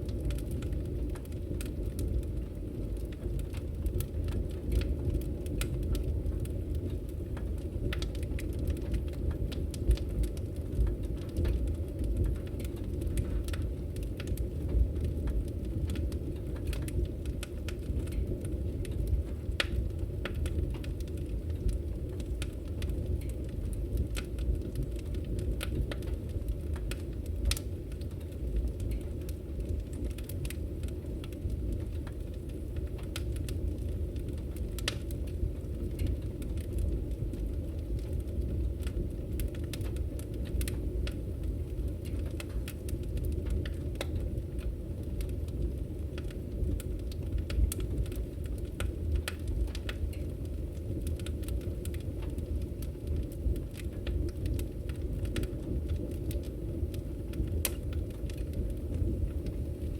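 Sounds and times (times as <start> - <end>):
fire rumbling: 0.0 - 59.9
firewood crackling and popping: 0.0 - 59.9.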